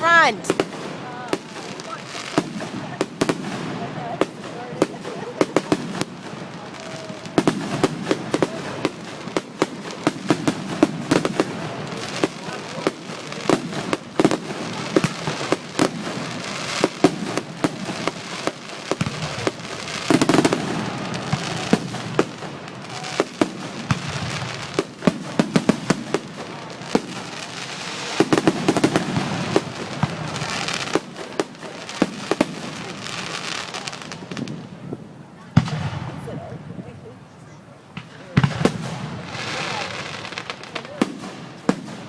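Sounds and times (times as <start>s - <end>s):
fireworks popping and crackling: 0.0s - 42.0s.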